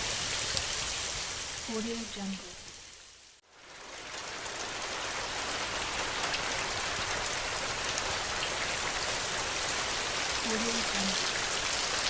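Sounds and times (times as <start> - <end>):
individual raindrops: 0.0 - 12.0
steady rain hiss: 0.0 - 12.0.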